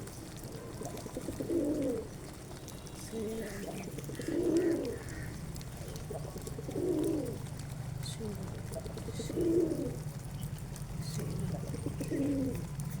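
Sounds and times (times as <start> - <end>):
pigeons cooing: 0.1 - 13.0
small birds chirping: 1.9 - 13.0.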